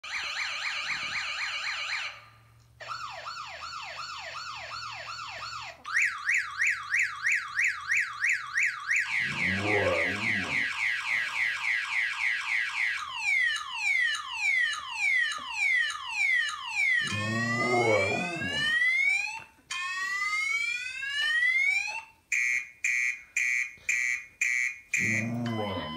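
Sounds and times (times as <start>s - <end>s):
car alarm siren: 0.0s - 25.9s.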